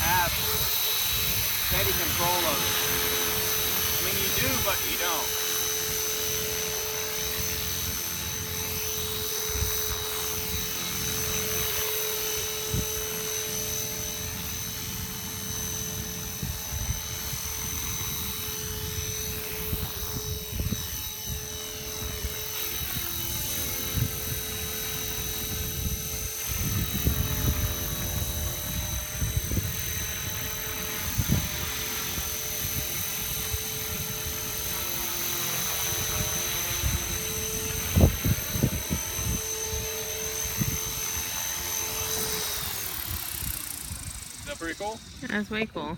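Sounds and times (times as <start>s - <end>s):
model helicopter whine: 0.0s - 45.9s.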